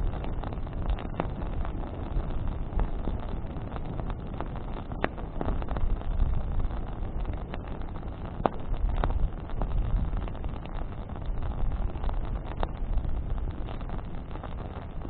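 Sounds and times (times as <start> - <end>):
burning branches crackling: 0.0 - 15.0
campfire flames rumbling: 0.0 - 15.0
wind on microphone: 0.0 - 15.0.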